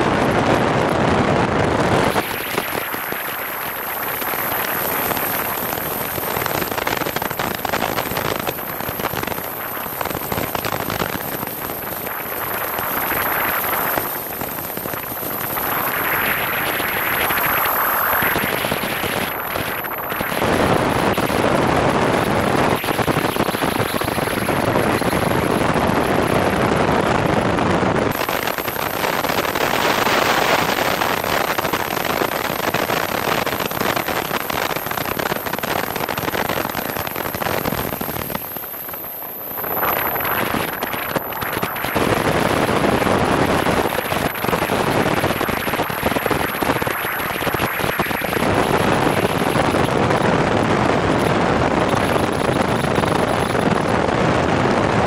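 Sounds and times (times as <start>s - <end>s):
airplane engine: 0.0s - 55.0s.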